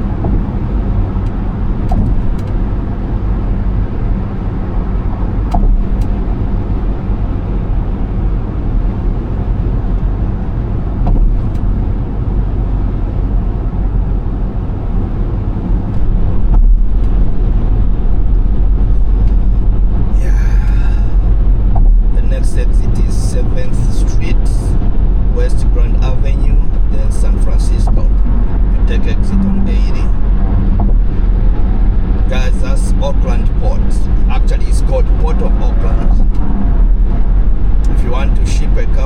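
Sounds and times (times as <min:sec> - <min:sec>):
tyre and engine rumble: 0:00.0 - 0:39.0.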